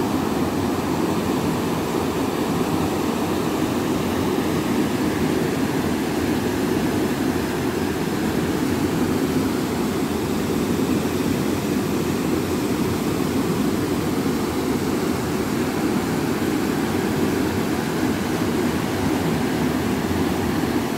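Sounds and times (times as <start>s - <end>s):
river rushing over a weir: 0.0s - 20.9s.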